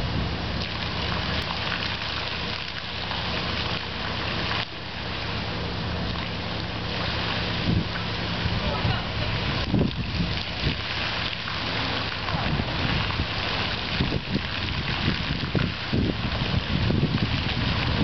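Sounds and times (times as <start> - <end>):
fountain water splashing: 0.0 - 18.0
steady low hum: 0.0 - 18.0.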